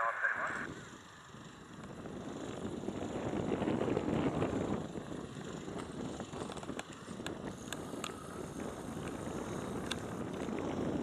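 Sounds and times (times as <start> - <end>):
distant jet taxiing rumble: 0.0 - 11.0
wind on microphone: 0.4 - 11.0.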